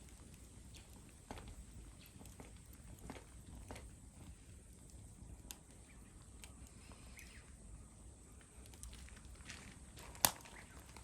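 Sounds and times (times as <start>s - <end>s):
campfire crackling and popping: 0.0s - 6.9s, 8.4s - 11.0s.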